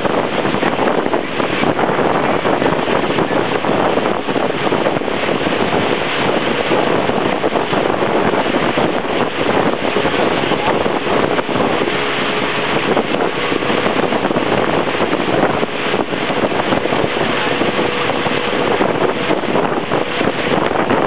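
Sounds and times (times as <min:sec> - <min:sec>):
motorboat motor hum: 0:00.0 - 0:21.0
water rushing: 0:00.0 - 0:21.0
wind on microphone: 0:00.0 - 0:21.0.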